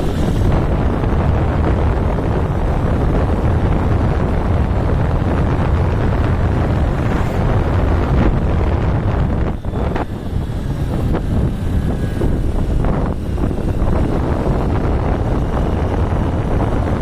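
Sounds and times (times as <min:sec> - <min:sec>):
motorbike ride noise: 0:00.0 - 0:17.0
wind buffeting microphone: 0:00.0 - 0:17.0.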